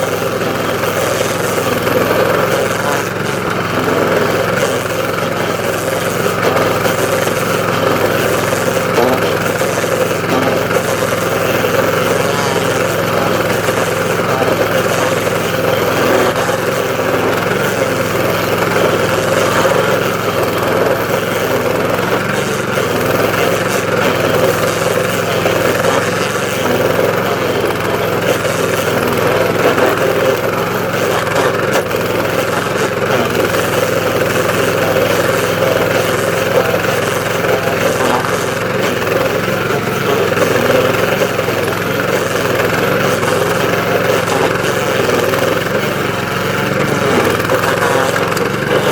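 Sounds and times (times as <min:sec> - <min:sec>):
cutter wheel grinding stump: 0:00.0 - 0:48.9
engine drone: 0:00.0 - 0:48.9.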